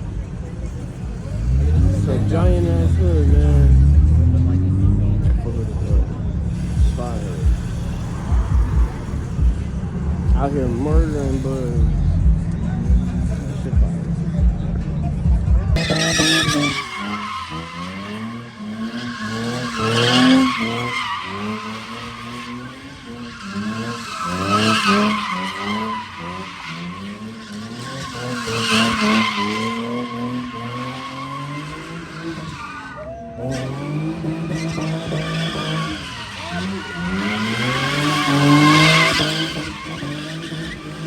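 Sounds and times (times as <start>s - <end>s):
car engine revving: 0.0s - 41.0s
tires squealing: 0.0s - 41.0s.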